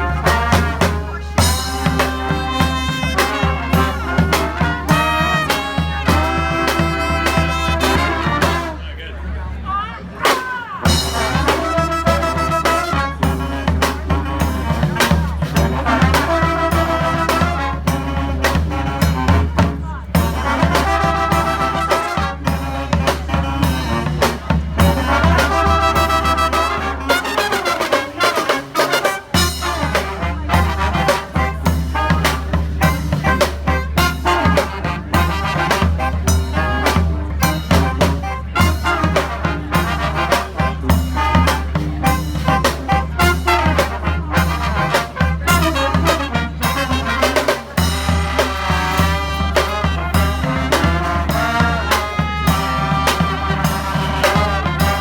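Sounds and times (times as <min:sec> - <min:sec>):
brass band playing jazzy tune: 0:00.0 - 0:55.0.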